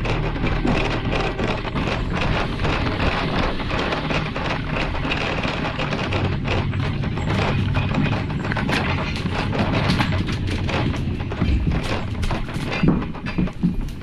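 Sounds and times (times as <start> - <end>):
equipment knocking and thumping: 0.0 - 14.0
fire engine running: 0.0 - 14.0.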